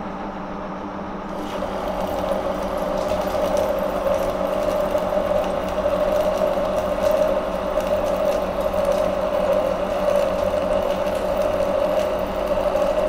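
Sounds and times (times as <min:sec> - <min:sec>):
machine hum: 0:00.0 - 0:13.0
lathe cutting steel: 0:01.3 - 0:13.0.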